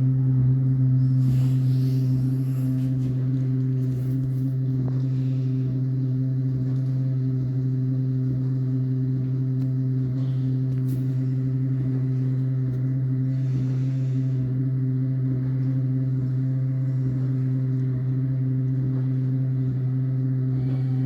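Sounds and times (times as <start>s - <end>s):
dishwasher humming loudly: 0.0s - 21.0s.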